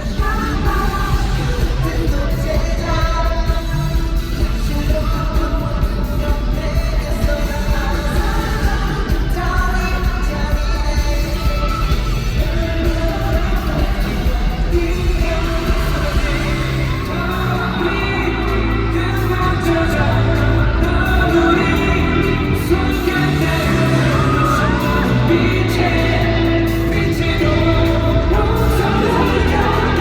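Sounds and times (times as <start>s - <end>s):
amplified pop band track: 0.0s - 30.0s
person singing: 0.0s - 30.0s.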